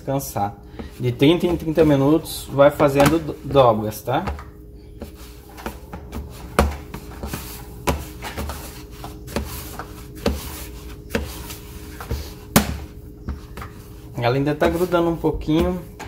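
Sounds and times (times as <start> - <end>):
hands kneading wet dough: 0.0 - 16.0.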